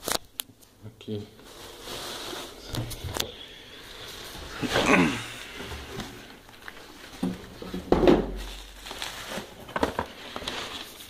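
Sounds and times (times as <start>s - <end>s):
bubble wrap crinkling: 1.4s - 11.0s.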